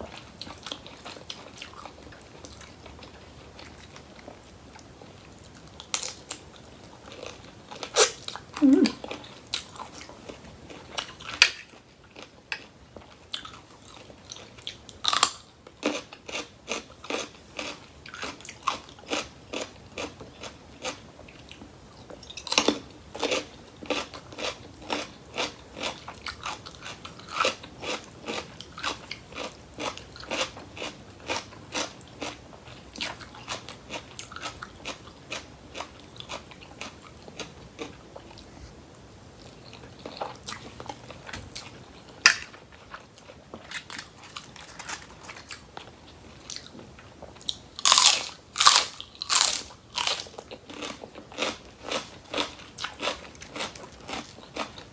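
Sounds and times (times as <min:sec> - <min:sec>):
chewing crunchy salad: 0:00.0 - 0:54.9.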